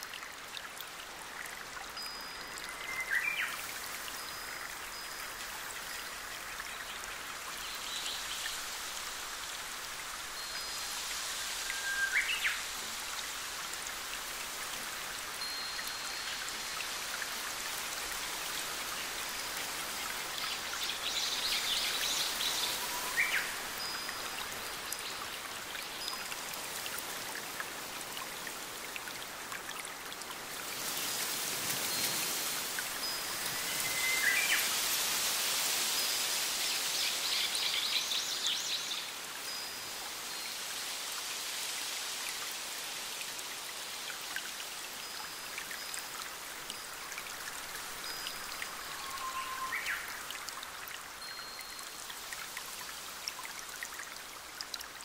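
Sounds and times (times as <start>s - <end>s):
stream rushing and splashing: 0.0s - 55.0s.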